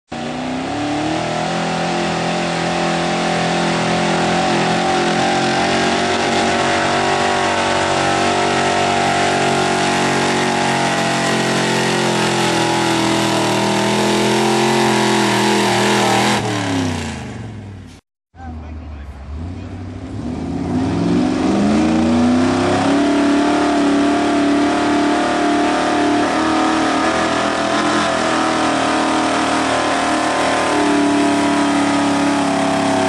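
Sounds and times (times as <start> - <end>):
truck engine at high revs: 0.1 - 33.0.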